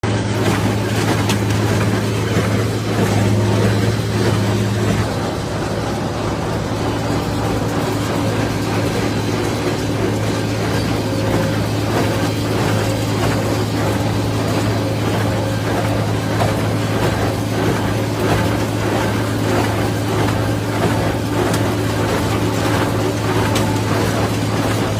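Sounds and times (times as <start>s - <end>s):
tractor engine running under load: 0.0s - 24.9s.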